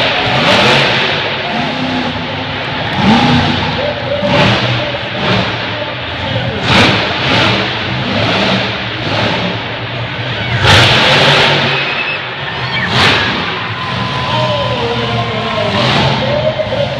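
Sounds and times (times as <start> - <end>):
arena crowd din: 0.0 - 16.9
monster truck engine revving: 0.0 - 16.9.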